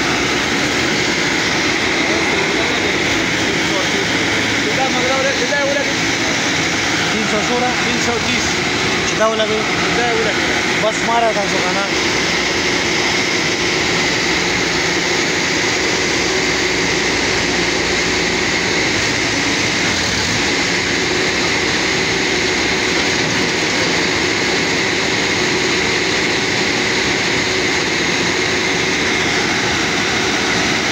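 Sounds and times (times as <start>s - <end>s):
compressed air blowing: 0.0s - 30.9s
drilling rig engine: 0.0s - 30.9s
steady high whine: 0.0s - 30.9s.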